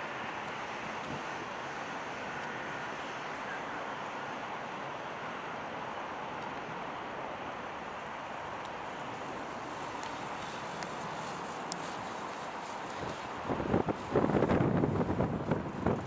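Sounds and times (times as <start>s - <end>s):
distant jet engines roaring: 0.0s - 16.0s.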